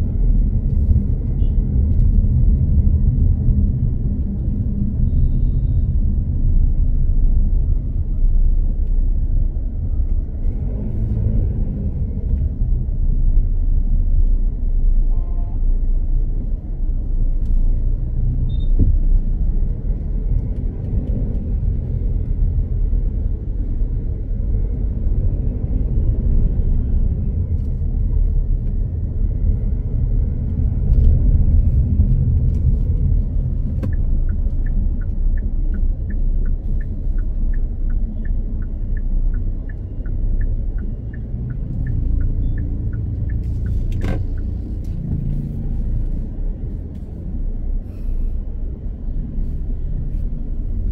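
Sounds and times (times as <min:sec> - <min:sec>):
car engine and tyre noise: 0:00.0 - 0:50.9.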